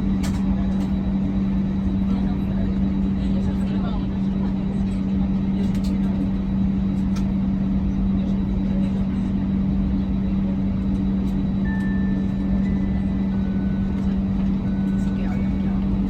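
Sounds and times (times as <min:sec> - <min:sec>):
aircraft cabin hum and rumble: 0:00.0 - 0:16.0.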